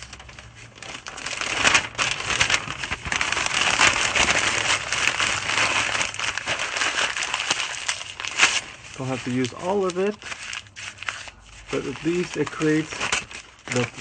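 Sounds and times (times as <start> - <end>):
newspaper crumpling: 0.0 - 14.0.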